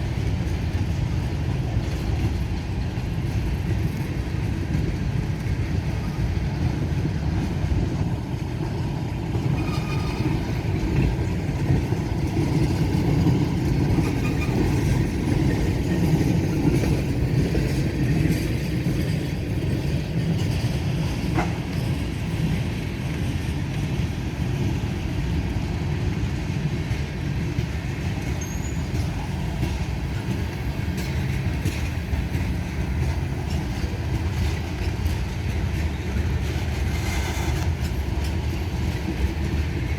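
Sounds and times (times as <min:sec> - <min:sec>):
train car clank: 0:00.0 - 0:24.0, 0:26.1 - 0:39.9
freight train wheels rumbling on rail: 0:00.0 - 0:39.9.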